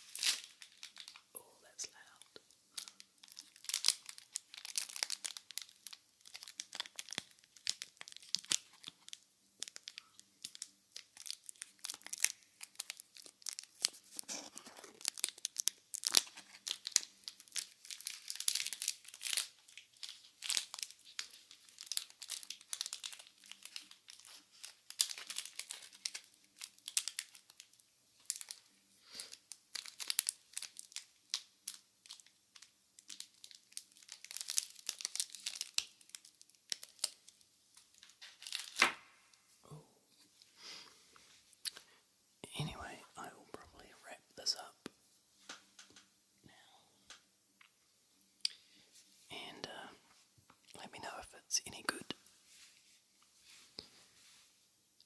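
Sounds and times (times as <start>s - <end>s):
crinkling and crackling: 0.0s - 55.0s.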